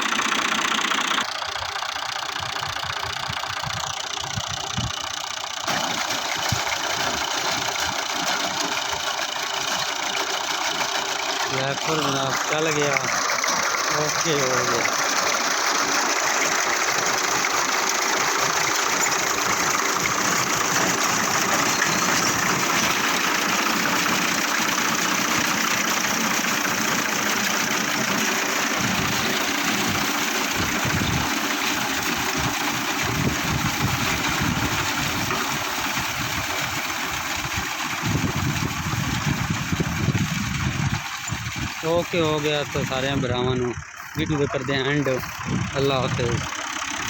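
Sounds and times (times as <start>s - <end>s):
tractor engine low rumble: 0.0s - 47.0s.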